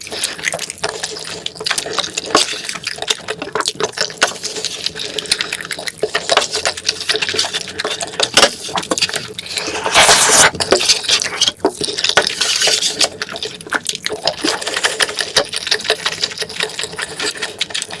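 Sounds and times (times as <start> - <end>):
wet chewing and mouth smacks: 0.0 - 18.0.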